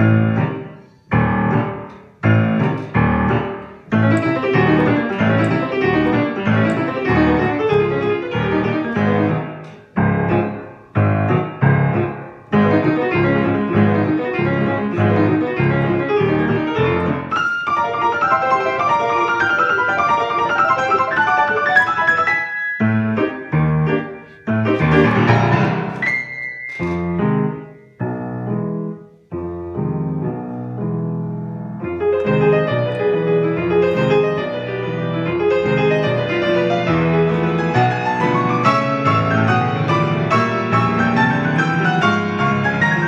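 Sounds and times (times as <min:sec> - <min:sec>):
solo piano march: 0:00.0 - 0:43.0.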